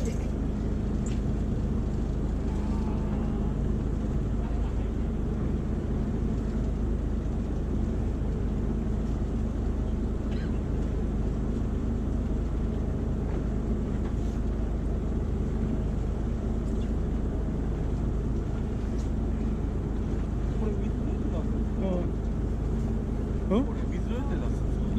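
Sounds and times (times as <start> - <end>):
boat engine droning: 0.0 - 24.9.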